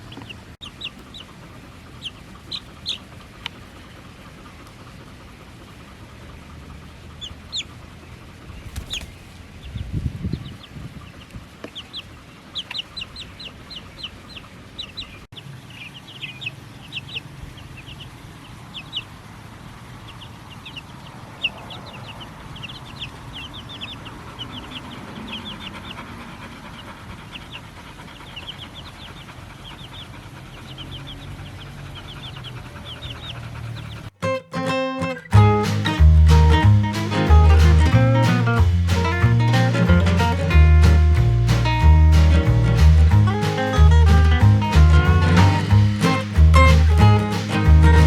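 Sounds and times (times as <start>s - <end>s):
baby chicks peeping: 0.0s - 34.2s, 35.0s - 48.0s.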